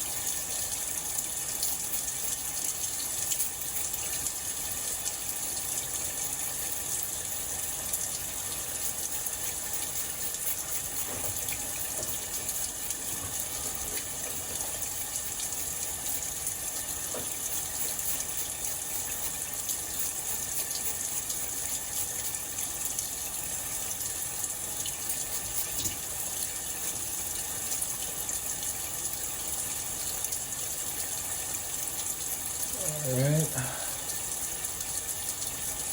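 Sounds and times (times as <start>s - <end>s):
faucet running into sink: 0.0s - 35.9s.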